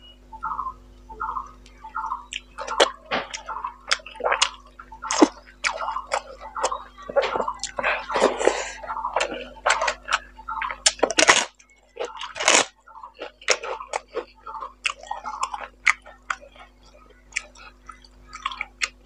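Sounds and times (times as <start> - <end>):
noisy bursts: 0.0 - 19.0
wet chewing and lip smacks: 1.4 - 19.0.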